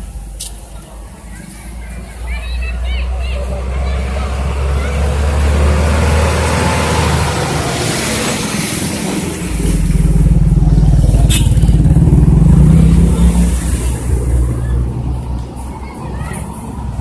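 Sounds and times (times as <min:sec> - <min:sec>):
vehicle engine passing by: 0:01.8 - 0:17.0.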